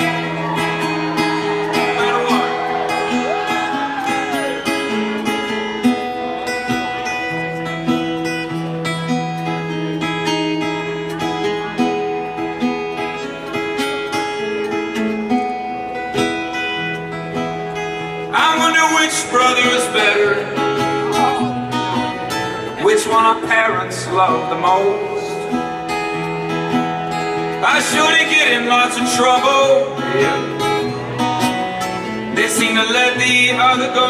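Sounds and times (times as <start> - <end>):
acoustic guitar picked chords: 0.0 - 34.0.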